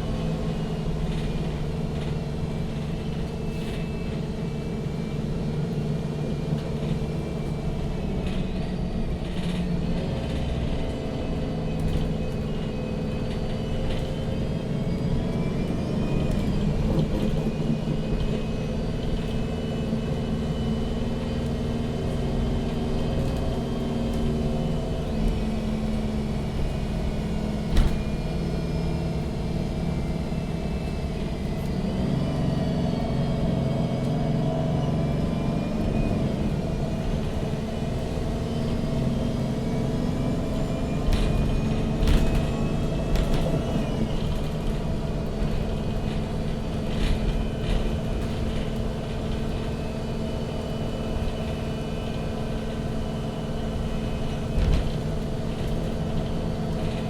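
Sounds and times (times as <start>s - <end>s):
bus engine humming: 0.0s - 57.0s
road rumble: 0.0s - 57.0s.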